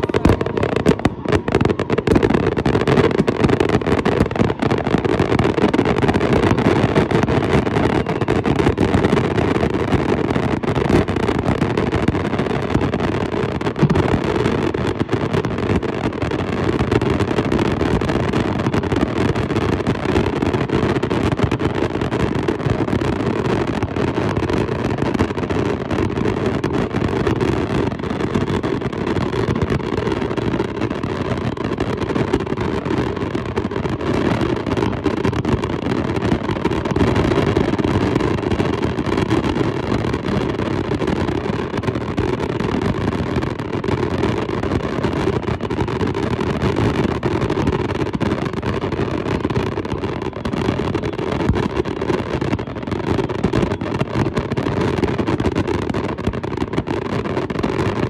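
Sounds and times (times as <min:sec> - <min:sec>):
fireworks crackle and rumble: 0:00.0 - 0:58.0.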